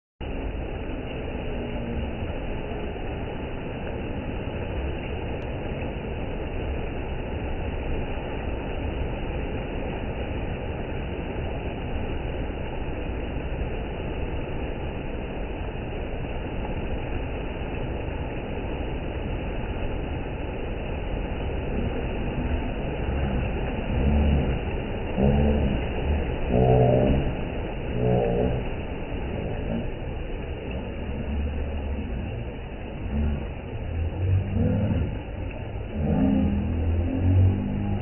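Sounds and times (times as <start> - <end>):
river rushing over rocky rapids: 0.2 - 38.0.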